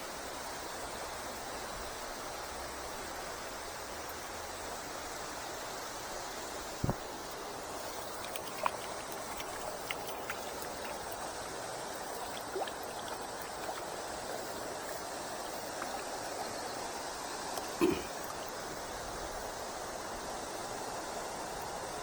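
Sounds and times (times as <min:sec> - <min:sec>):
river water flowing: 0:00.0 - 0:22.0.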